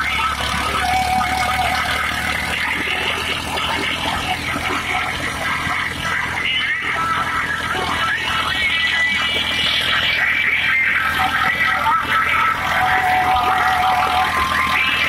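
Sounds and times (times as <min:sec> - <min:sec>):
thresher clatter and hum: 0:00.0 - 0:15.0
tractor diesel engine running: 0:00.0 - 0:15.0.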